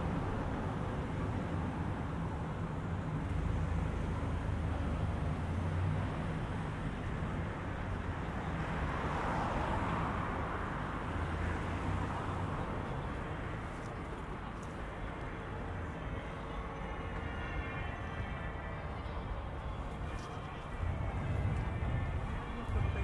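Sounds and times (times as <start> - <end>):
car engines rumbling: 0.0 - 23.0
tyres on road: 0.0 - 23.0
urban hum: 0.0 - 23.0.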